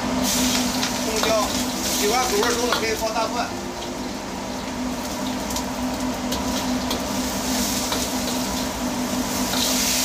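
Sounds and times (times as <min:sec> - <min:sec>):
food crackling in oil: 0:00.0 - 0:10.0
stove burner and blower roaring: 0:00.0 - 0:10.0.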